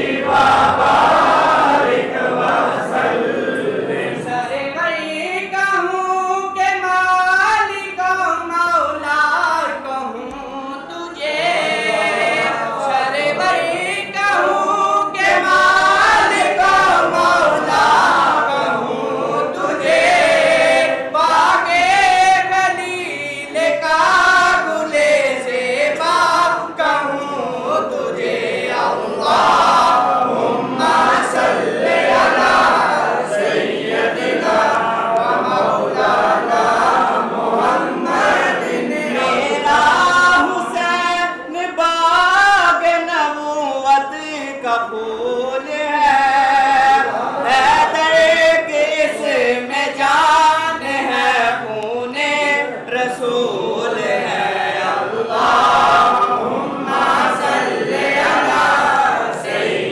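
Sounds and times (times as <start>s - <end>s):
men singing a devotional chant: 0.0s - 59.9s.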